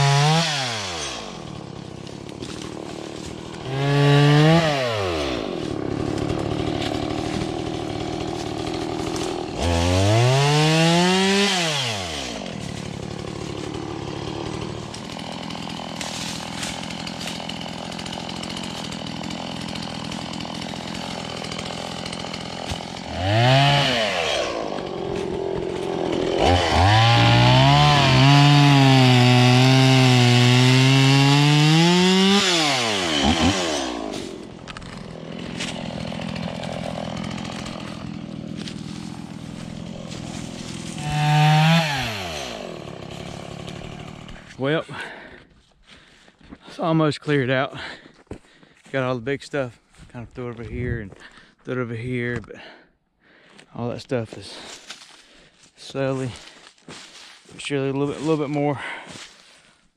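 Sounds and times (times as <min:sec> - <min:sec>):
chainsaw idling and revving: 0:00.0 - 0:49.6, 0:53.5 - 0:59.6.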